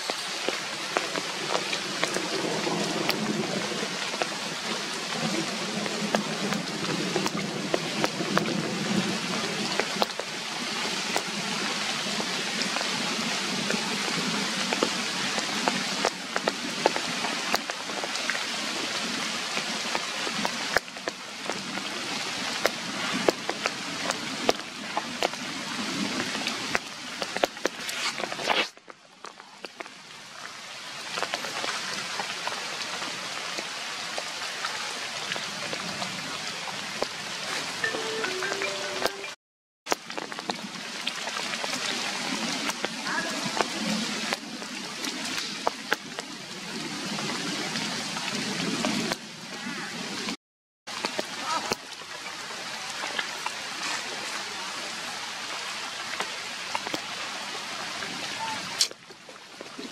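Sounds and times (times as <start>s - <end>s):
rain falling on puddles: 0.0s - 59.9s.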